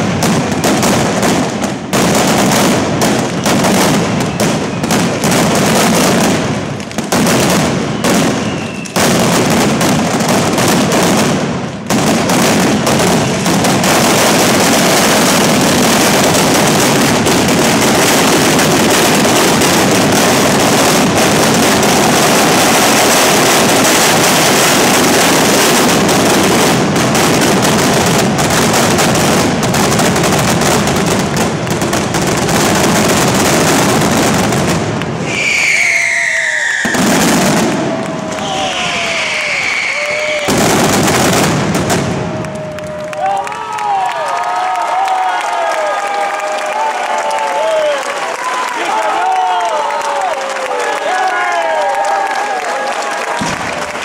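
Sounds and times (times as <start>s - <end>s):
firecrackers exploding rapidly: 0.0s - 43.6s, 51.6s - 54.0s.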